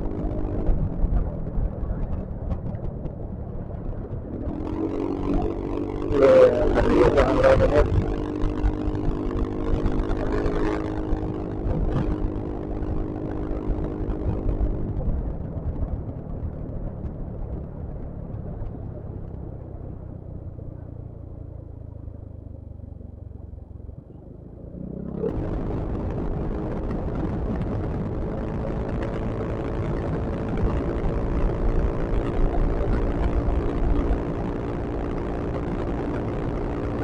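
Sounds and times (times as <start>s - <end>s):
low wind: 0.0s - 37.0s
road rumble: 0.0s - 37.0s
scooter engine under way: 0.0s - 37.0s.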